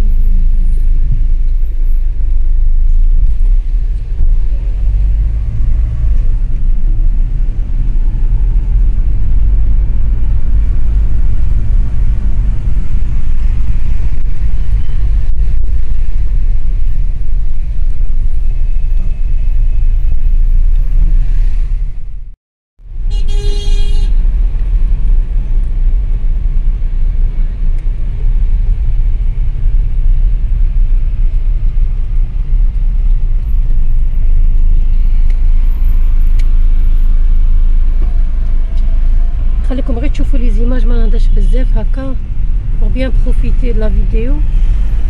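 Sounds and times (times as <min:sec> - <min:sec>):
car driving in traffic: 0:00.0 - 0:45.0.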